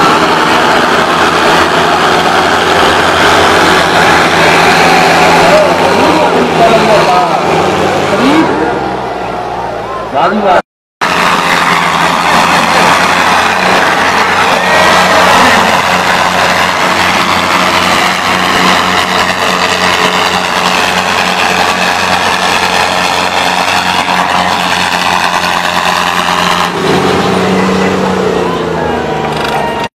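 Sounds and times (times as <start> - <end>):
tractor diesel engines droning: 0.0 - 29.9.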